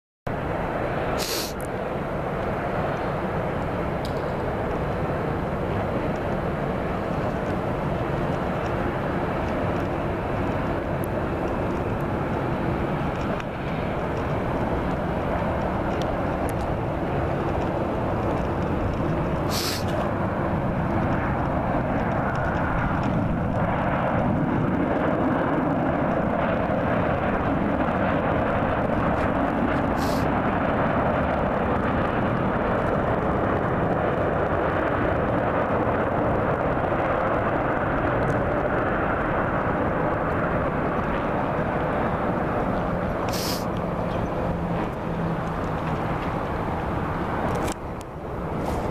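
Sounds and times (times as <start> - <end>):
jet engines roaring on landing: 0.3 - 48.9.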